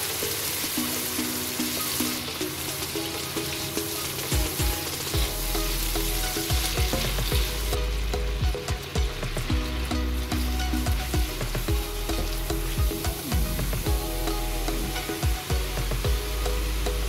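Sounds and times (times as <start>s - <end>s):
meat sizzling in butter: 0.0s - 17.0s.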